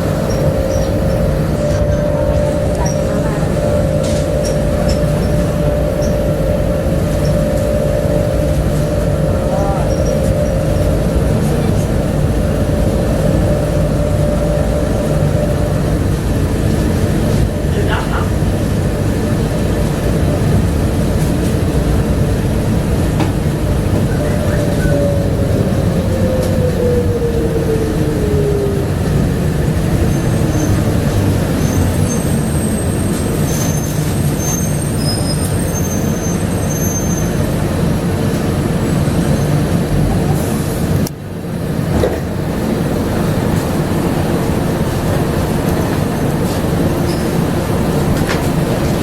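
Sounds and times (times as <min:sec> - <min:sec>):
people-mover car rolling: 0:00.0 - 0:49.0.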